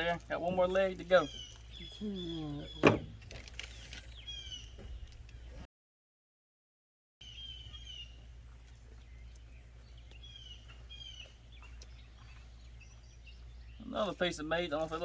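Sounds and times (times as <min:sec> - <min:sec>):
birds chirping: 0:00.0 - 0:05.7, 0:07.2 - 0:15.0.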